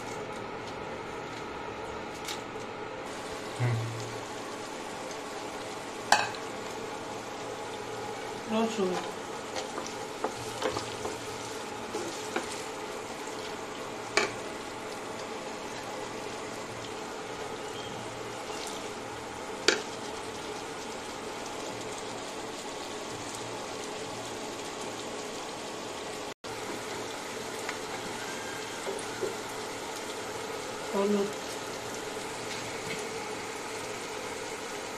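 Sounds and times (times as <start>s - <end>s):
onions sizzling in hot oil: 3.0s - 34.9s.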